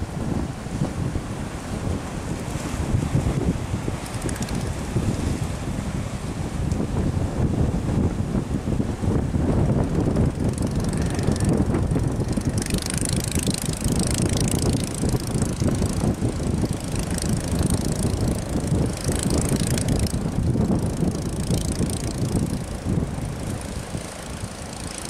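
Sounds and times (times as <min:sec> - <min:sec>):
waves crashing and spraying: 0:00.0 - 0:25.0
wind buffeting microphone: 0:00.0 - 0:25.0.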